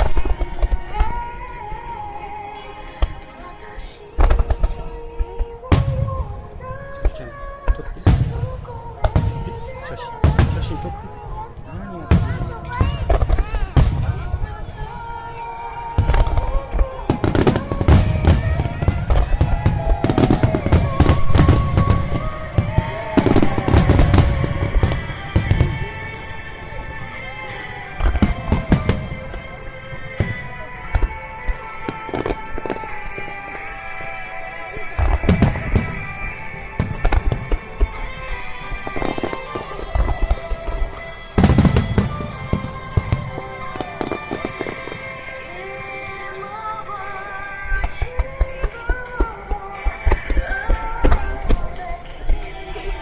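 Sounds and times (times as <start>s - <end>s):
fireworks bursting: 0.0s - 53.0s
music: 0.0s - 53.0s.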